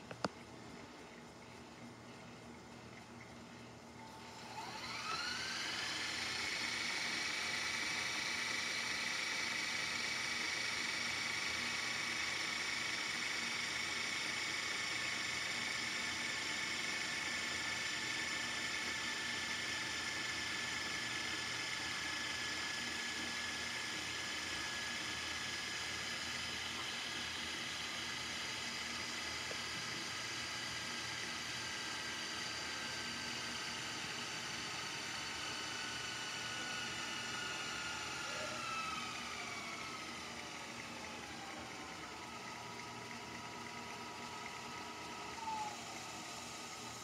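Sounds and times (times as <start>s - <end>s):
tape deck rewinding whir: 1.8s - 47.0s.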